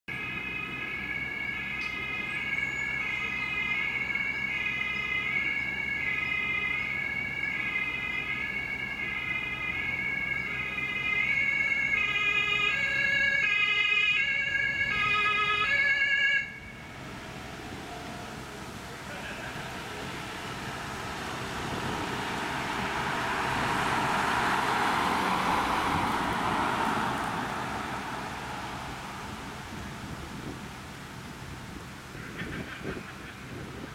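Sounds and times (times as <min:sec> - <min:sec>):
two-tone emergency siren: 0:00.1 - 0:30.6.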